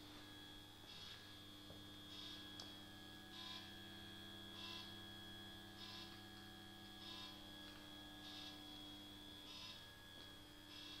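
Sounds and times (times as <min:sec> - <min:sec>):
faint electrical hum: 0:00.0 - 0:11.0
soft high pulse: 0:00.0 - 0:11.0.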